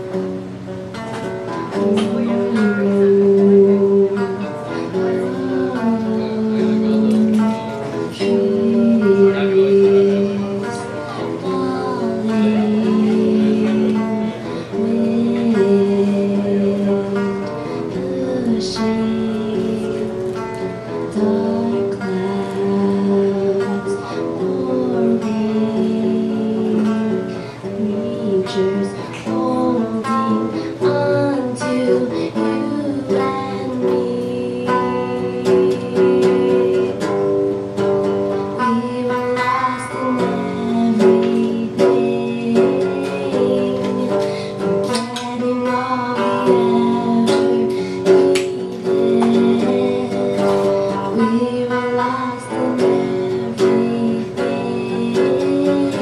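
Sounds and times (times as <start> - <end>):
electric guitar playing: 0.0 - 56.0
person singing: 0.0 - 56.0.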